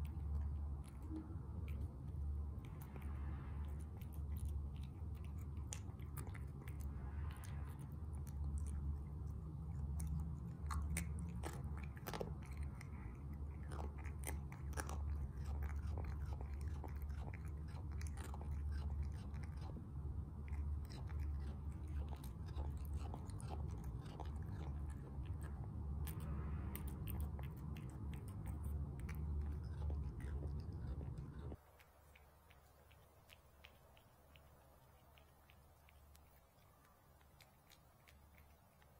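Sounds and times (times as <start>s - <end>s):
low hum: 0.0s - 38.8s
cat crunching dry kibble: 0.0s - 38.9s.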